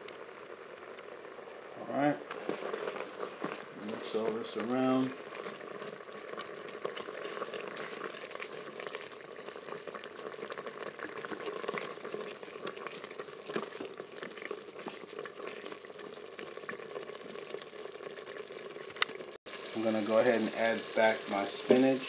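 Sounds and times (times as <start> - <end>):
thick sauce bubbling: 0.1 - 22.0
spatula stirring sauce: 2.3 - 21.9.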